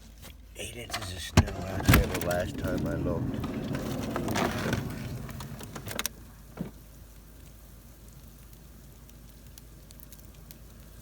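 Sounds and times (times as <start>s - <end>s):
rain and sleet falling: 1.5s - 11.0s.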